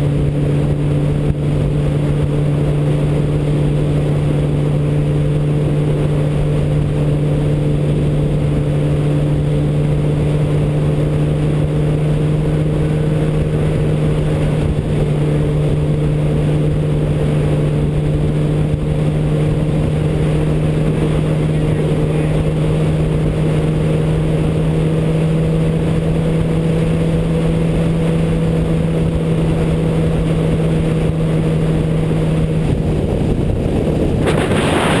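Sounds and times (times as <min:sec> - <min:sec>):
noisy rush: 0:00.0 - 0:35.0
vehicle engine droning: 0:00.0 - 0:35.0.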